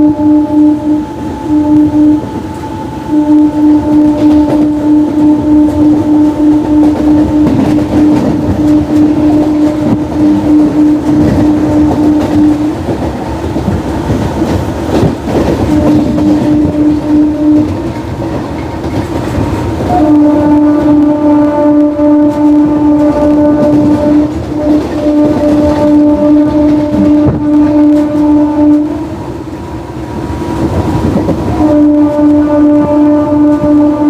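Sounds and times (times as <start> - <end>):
train horn blasts: 0.0 - 13.7, 15.0 - 18.3, 19.8 - 29.5, 30.4 - 34.0.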